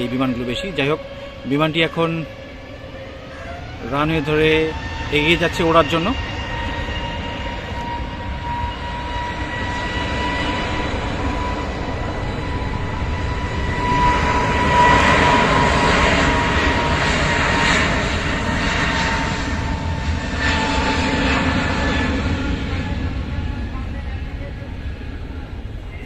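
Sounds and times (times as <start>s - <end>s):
jet engines whining and rumbling: 0.0s - 26.0s.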